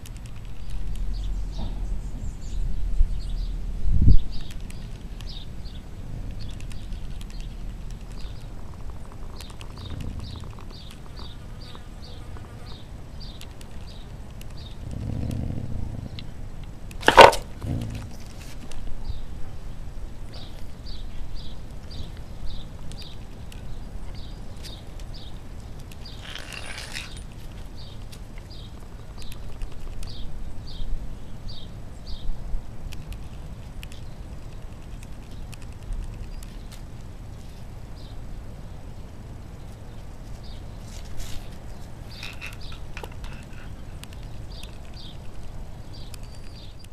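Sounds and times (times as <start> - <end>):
small bird chirping: 0.0 - 16.3, 17.1 - 46.9
constant low rumble: 0.0 - 46.9
rustle: 0.0 - 46.9.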